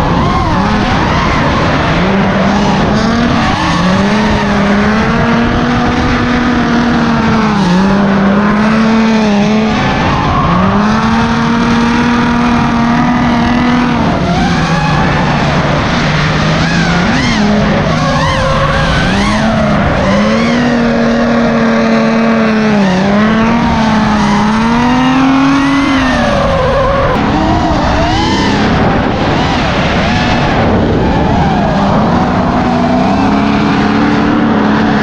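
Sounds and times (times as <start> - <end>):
car engine at high revs: 0.0 - 35.0
tyres skidding: 0.0 - 35.0.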